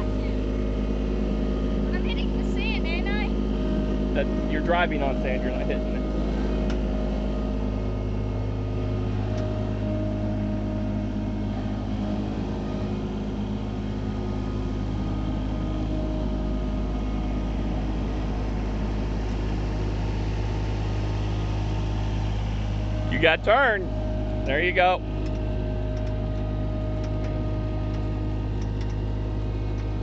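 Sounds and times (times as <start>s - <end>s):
loader engine running: 0.0s - 30.0s.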